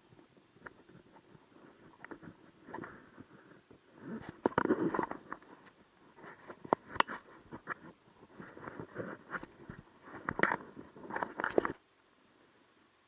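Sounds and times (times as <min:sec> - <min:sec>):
rustling and crackling: 0:00.0 - 0:11.9.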